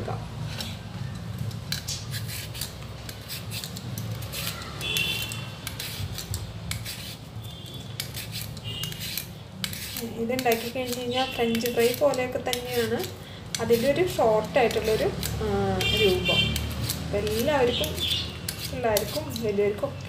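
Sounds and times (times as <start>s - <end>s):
peeler scraping potato skin: 0.4s - 20.0s.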